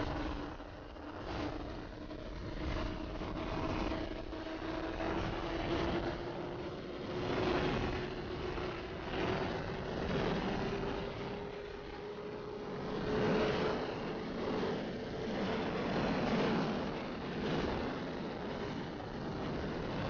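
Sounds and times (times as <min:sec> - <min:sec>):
motorcycle engine drone: 0:00.0 - 0:20.0
wind rushing on microphone: 0:00.0 - 0:20.0.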